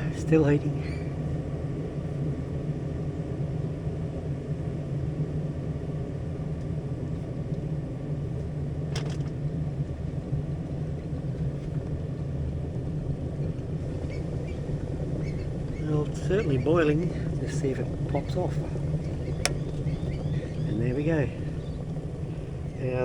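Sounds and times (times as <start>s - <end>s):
electric kettle heating water: 0.0s - 23.0s.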